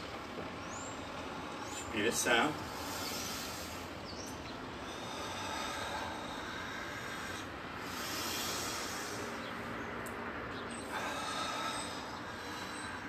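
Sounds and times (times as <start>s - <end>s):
man breathing deeply: 0.0s - 13.0s
steady background hiss: 0.0s - 13.0s.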